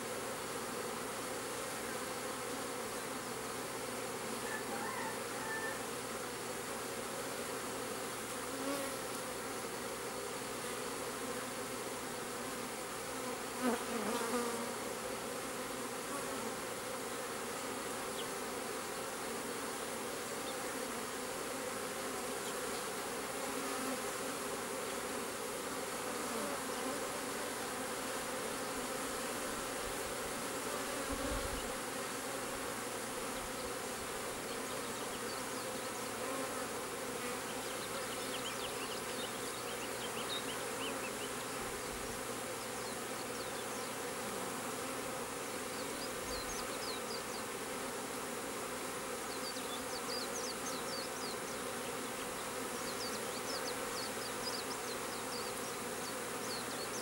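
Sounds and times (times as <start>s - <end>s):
bee swarm buzzing: 0.0s - 57.0s.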